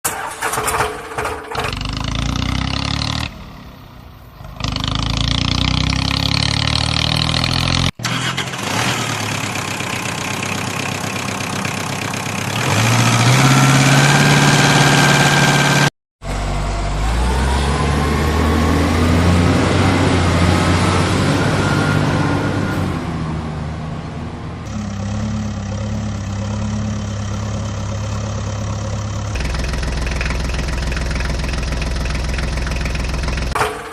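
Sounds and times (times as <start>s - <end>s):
engine whine: 0.1s - 33.9s
vehicle engine revving: 1.6s - 3.7s, 4.4s - 11.2s, 12.3s - 33.6s.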